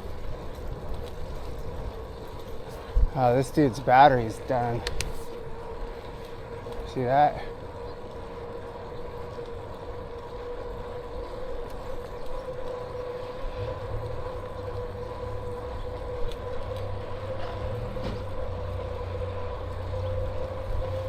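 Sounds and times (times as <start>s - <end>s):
bicycle tyres rumbling: 0.0s - 21.0s.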